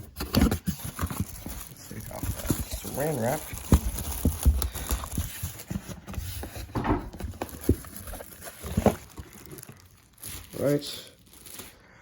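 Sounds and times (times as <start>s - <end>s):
plastic wrap crinkling: 0.4s - 12.0s.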